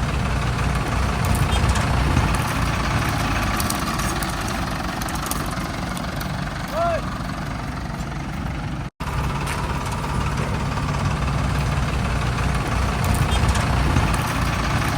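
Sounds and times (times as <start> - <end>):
heavy diesel engine idling: 0.0 - 14.9.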